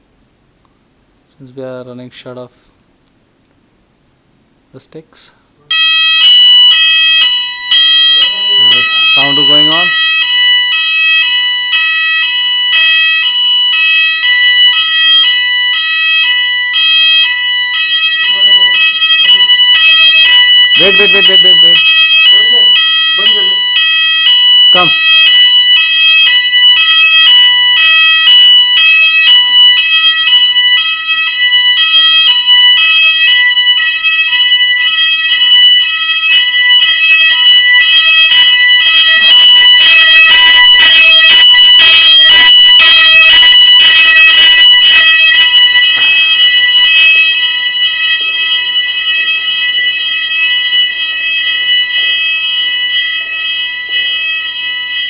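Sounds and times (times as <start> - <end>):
fire alarm sounders: 5.7 - 55.0.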